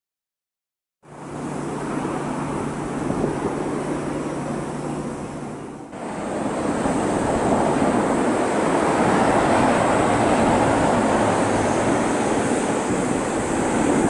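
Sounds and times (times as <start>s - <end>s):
road traffic rushing: 1.0s - 14.0s.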